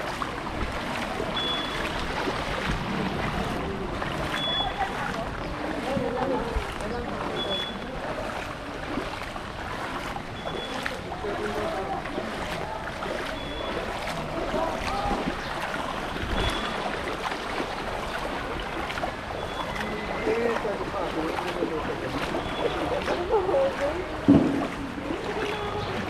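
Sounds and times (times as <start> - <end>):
footsteps splashing through water: 0.0 - 26.0.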